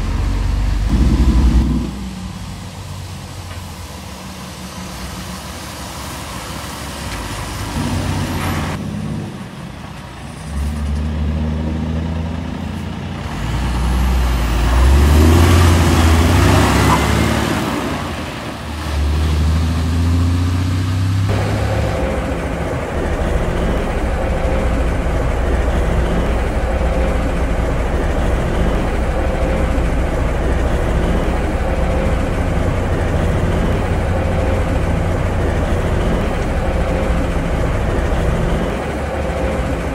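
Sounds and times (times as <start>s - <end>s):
diesel engine drone inside cab: 0.0s - 10.7s, 12.0s - 20.5s, 21.2s - 39.9s
tyres hissing on wet pavement: 0.0s - 11.4s, 12.3s - 39.9s
diesel trucks driving past: 0.0s - 39.9s.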